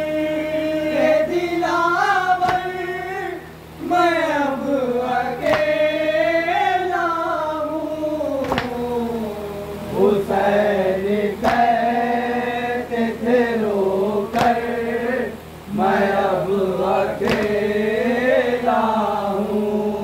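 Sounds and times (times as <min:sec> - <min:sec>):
men chanting a lament in unison: 0:00.0 - 0:20.0.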